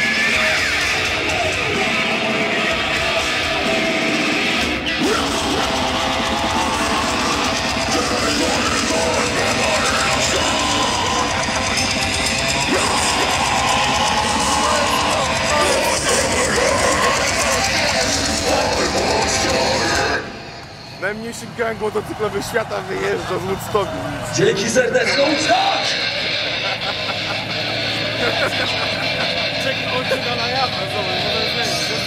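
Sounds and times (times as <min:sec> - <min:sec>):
heavy metal music with electric guitar: 0:00.0 - 0:32.0.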